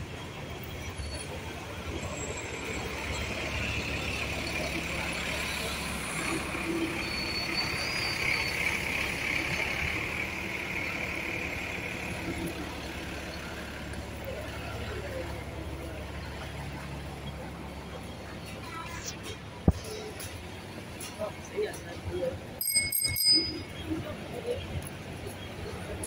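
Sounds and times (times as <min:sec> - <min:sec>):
bus running close by: 0:00.0 - 0:26.0
city street traffic: 0:00.0 - 0:26.0.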